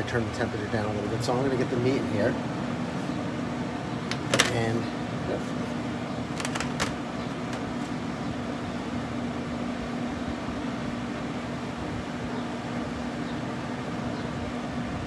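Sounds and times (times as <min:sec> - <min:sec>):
smoker fan humming: 0:00.0 - 0:15.0.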